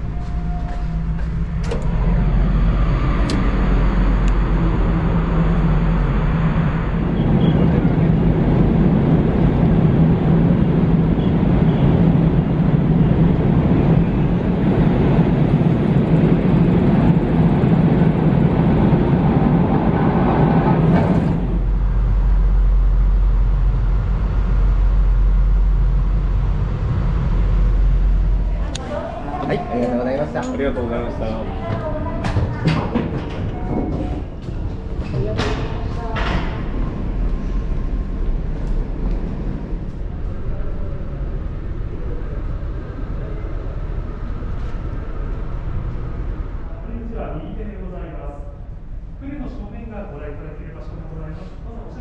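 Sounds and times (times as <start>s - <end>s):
deep steady drone: 0.0s - 32.2s, 33.2s - 52.0s
ship engine hum: 0.0s - 52.0s.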